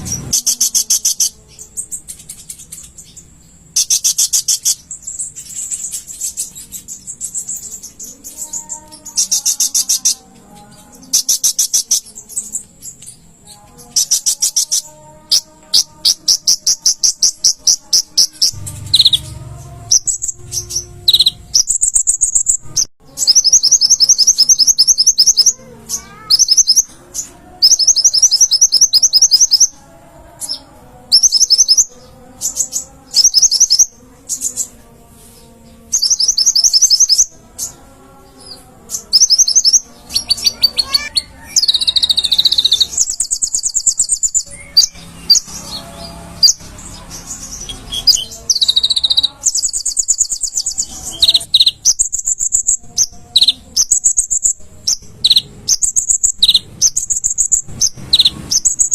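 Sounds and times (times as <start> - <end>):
bird singing rapid trills: 0.0 - 58.9.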